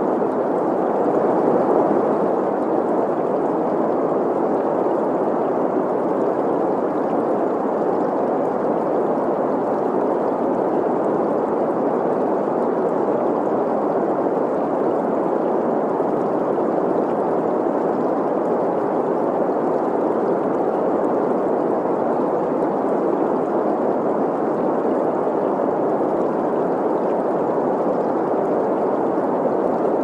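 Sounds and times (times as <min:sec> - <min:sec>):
flowing stream: 0:00.0 - 0:30.0.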